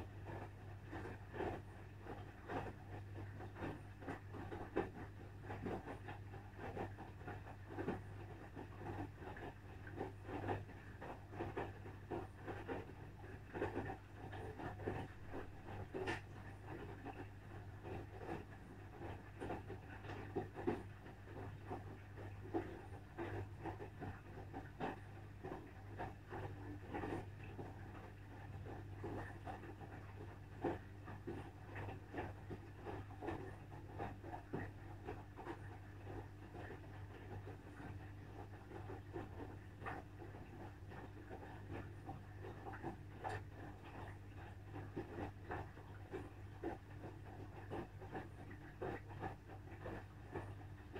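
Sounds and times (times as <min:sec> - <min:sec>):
washing machine tumbling clothes: 0:00.0 - 0:50.9.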